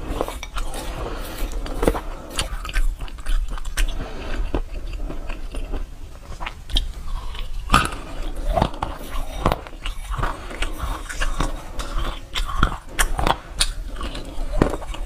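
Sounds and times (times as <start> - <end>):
person chewing crunchy peanuts: 0.0 - 15.0.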